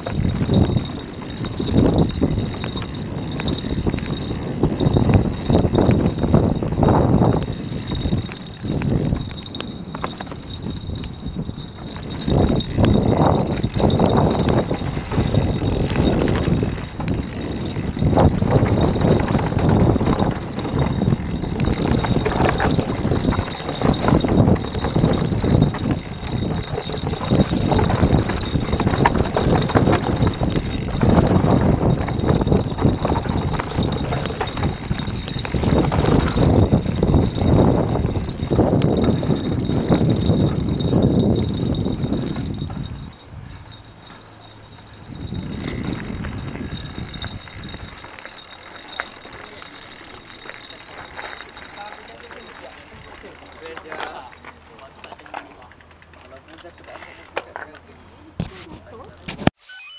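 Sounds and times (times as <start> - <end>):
bike chain rattling: 0.0 - 59.1
bike tyres on dirt: 0.0 - 59.7.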